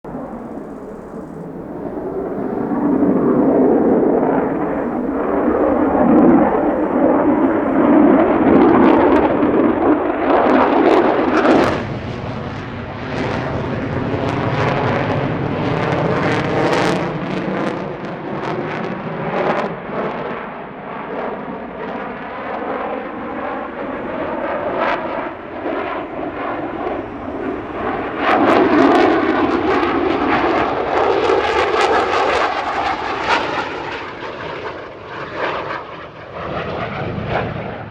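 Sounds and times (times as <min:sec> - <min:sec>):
jet roar: 0:00.0 - 0:37.9.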